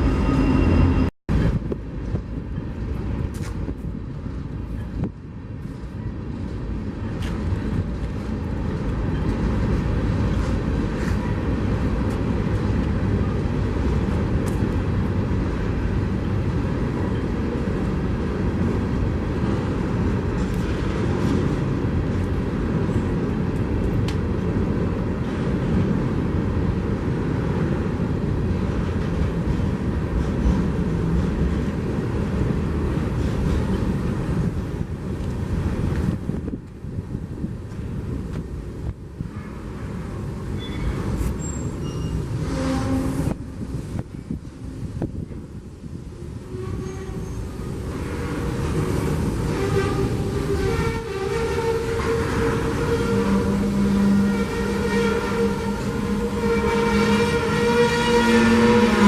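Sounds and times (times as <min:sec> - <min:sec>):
train passing rumble: 0:00.0 - 0:59.0.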